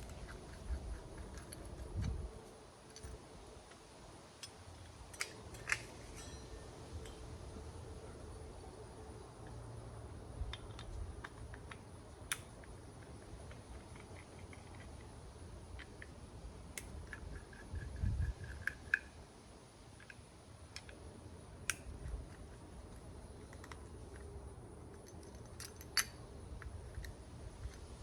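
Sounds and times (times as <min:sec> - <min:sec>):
small parts clicking and tapping: 0:00.0 - 0:07.3, 0:10.4 - 0:19.2, 0:19.9 - 0:28.0.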